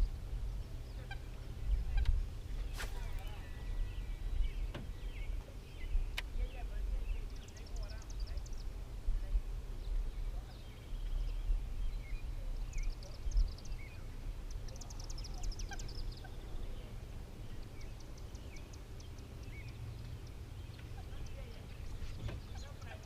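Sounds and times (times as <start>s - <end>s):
steady low rumble: 0.0s - 23.0s
birds chirping and whistling: 0.9s - 8.8s, 9.8s - 23.0s.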